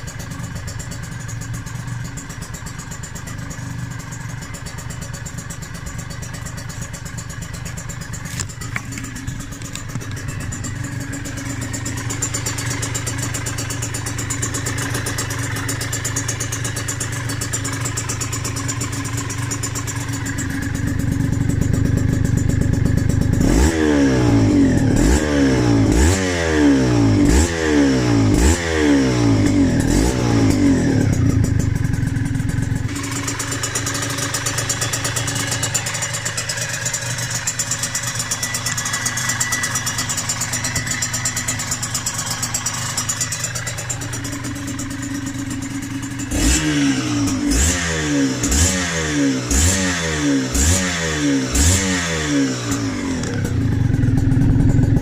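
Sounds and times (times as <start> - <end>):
two-stroke engine running and revving: 0.0 - 55.0.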